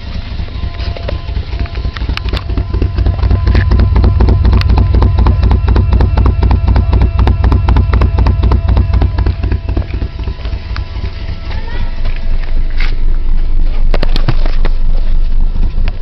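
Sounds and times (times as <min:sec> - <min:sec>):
engine running roughly: 0:00.0 - 0:16.0.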